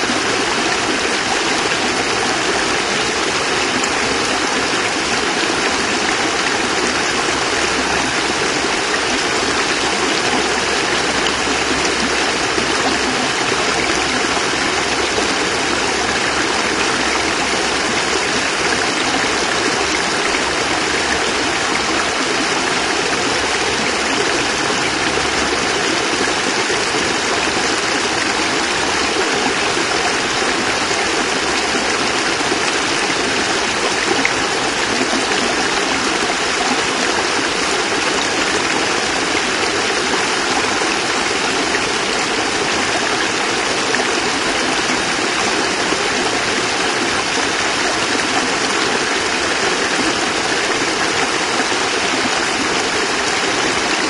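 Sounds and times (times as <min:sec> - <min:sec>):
cascade water splashing: 0:00.0 - 0:54.0.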